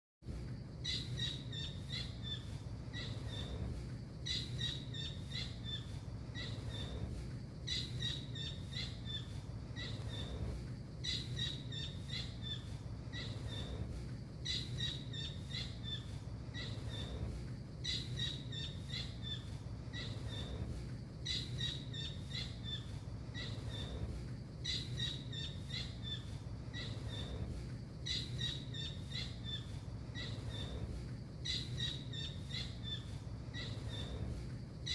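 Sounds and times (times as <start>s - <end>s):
steady low hum: 0.2s - 34.9s.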